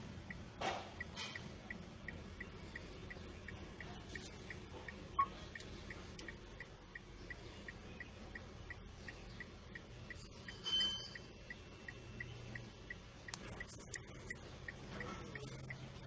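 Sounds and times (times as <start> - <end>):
faint low hum: 0.0 - 16.0
light regular ticking: 0.0 - 16.0.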